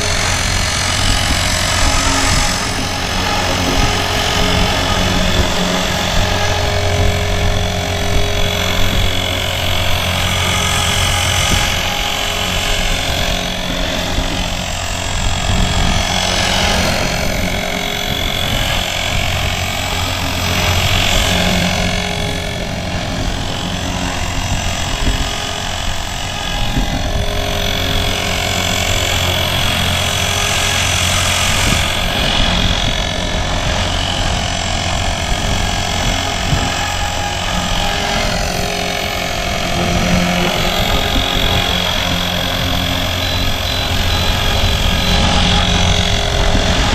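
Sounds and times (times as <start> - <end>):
grinding gear noise: 0.0 - 46.9
rc helicopter motor and rotors: 0.0 - 46.9.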